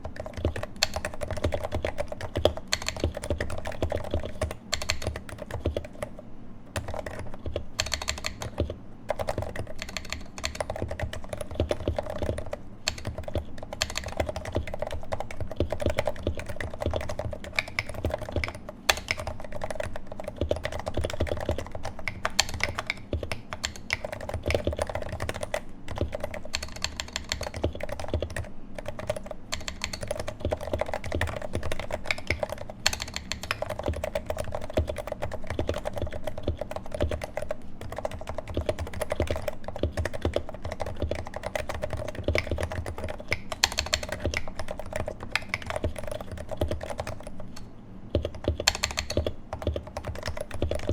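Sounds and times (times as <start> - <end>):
keyboard typing: 0.0 - 50.9.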